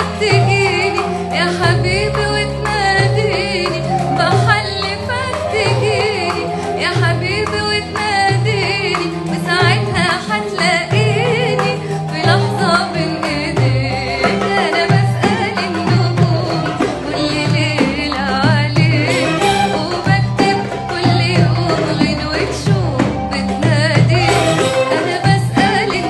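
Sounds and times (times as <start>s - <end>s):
backing track with bass line: 0.0s - 26.0s
woman singing: 0.0s - 26.0s.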